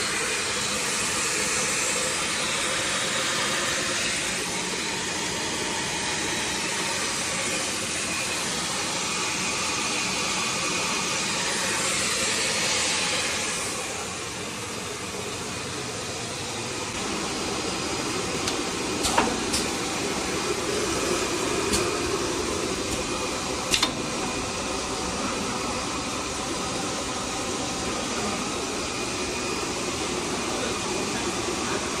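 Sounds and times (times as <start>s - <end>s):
hot-air blower hissing: 0.0s - 32.0s.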